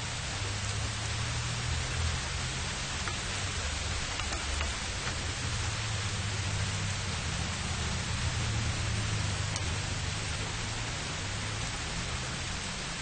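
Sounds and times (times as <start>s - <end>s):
light city traffic rumble: 0.0s - 13.0s
steady rain hissing: 0.0s - 13.0s.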